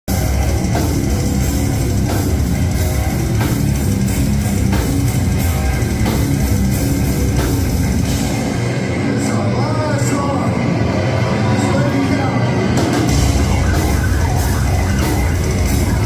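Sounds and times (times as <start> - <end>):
heavy metal rock music: 0.1 - 16.0.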